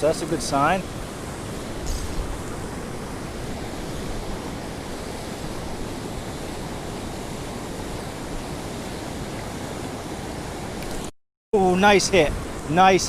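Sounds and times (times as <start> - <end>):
fast-flowing river water: 0.0 - 13.0
waterfall: 0.0 - 13.0.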